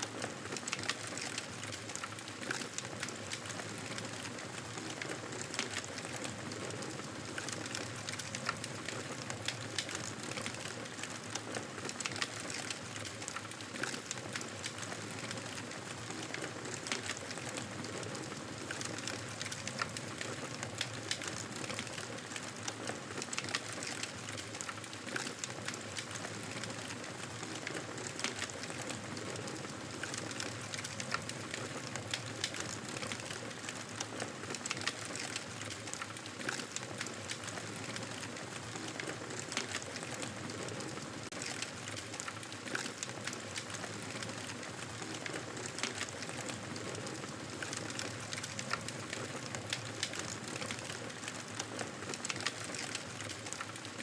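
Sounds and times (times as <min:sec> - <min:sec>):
campfire crackling and popping: 0:00.3 - 0:54.0.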